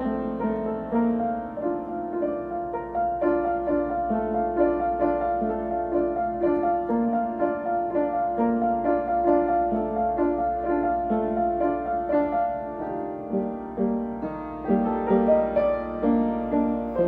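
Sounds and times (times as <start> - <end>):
piano playing: 0.0 - 17.0.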